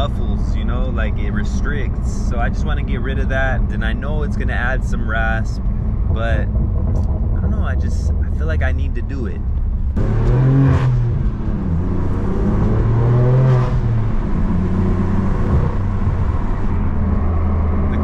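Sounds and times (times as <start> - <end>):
car engine and exhaust droning: 0.0 - 18.0.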